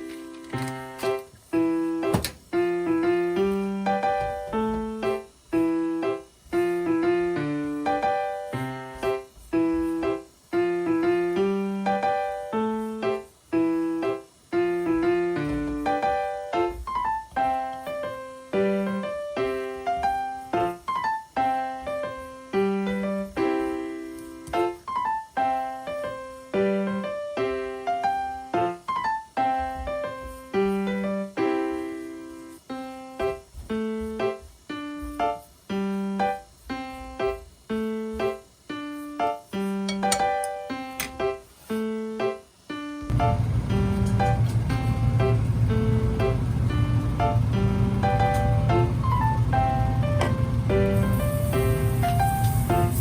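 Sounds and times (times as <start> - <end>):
background piano music: 0.0 - 53.0.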